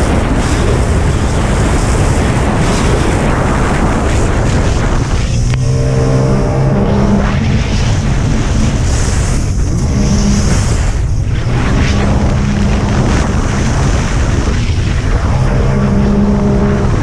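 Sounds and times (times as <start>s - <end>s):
jet ski engine running hard: 0.0s - 17.0s
rushing water and wind: 0.0s - 17.0s.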